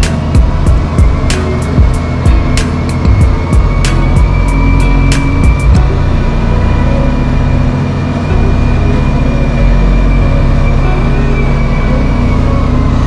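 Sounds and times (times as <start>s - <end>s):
wheel loader diesel engine: 0.0s - 13.0s.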